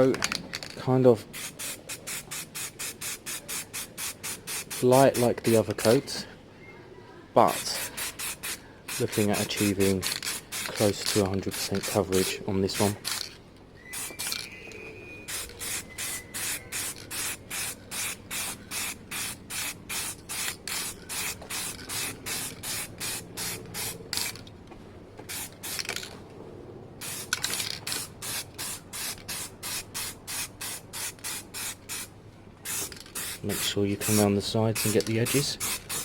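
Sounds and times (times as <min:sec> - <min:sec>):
spray paint can hissing: 0:01.3 - 0:05.9, 0:07.5 - 0:13.3, 0:13.9 - 0:14.5, 0:15.3 - 0:24.4, 0:25.3 - 0:26.1, 0:27.0 - 0:36.0.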